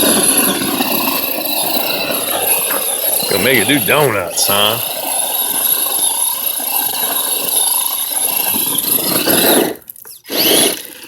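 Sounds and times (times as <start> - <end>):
electric toy truck motor whining: 0.0 - 3.6, 4.5 - 11.0.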